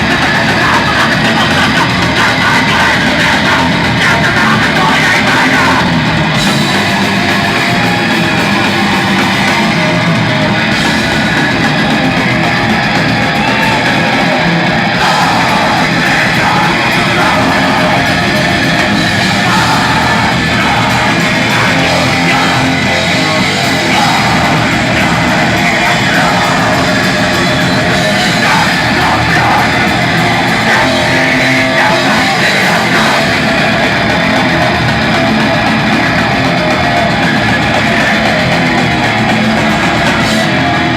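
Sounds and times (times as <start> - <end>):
rock band playing loudly: 0.0 - 40.9
shouted vocals: 0.0 - 40.9.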